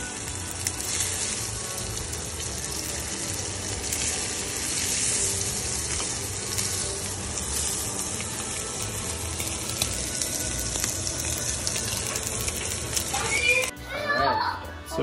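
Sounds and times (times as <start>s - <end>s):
fish sizzling in oil: 0.0s - 13.7s.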